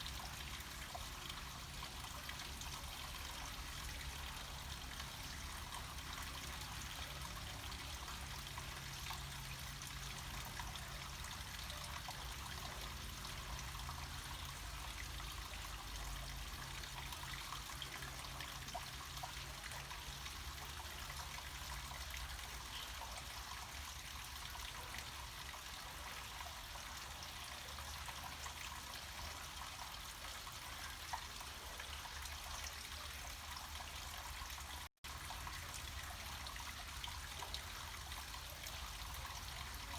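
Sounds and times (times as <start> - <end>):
water trickling down cascade: 0.0 - 39.9.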